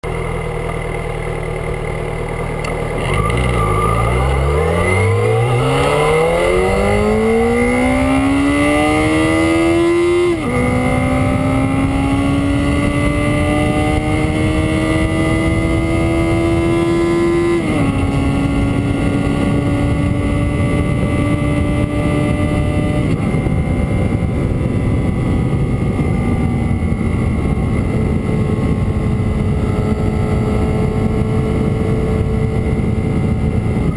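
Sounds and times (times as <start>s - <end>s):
motorcycle engine accelerating: 0.0s - 33.9s
wind rush on microphone: 3.0s - 33.9s.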